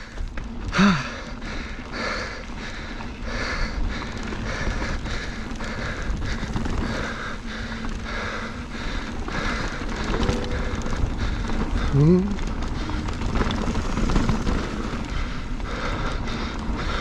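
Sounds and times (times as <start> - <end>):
heavy rhythmic breathing: 0.0 - 17.0
tyres rolling on dirt: 0.0 - 17.0
wind rumbling on microphone: 0.0 - 17.0.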